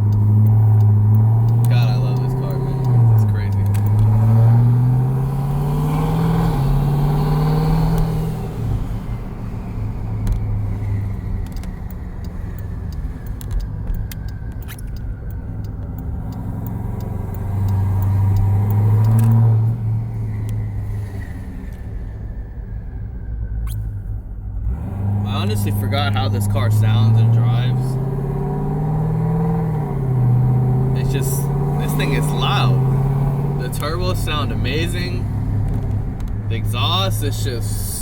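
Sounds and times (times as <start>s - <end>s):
car exhaust accelerating: 0.0s - 38.0s.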